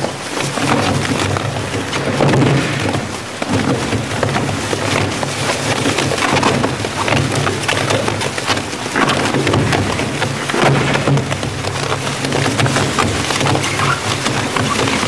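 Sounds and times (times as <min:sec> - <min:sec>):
shredder tearing and crushing bags: 0:00.0 - 0:15.0.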